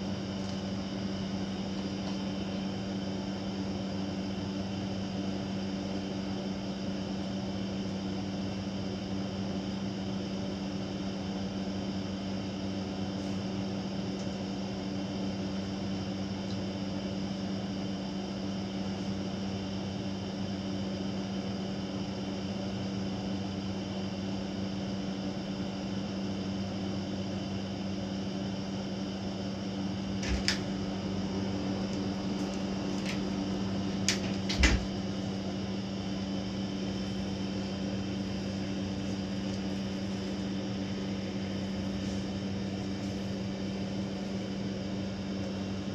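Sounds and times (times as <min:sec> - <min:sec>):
appliance electrical hum: 0:00.0 - 0:45.9.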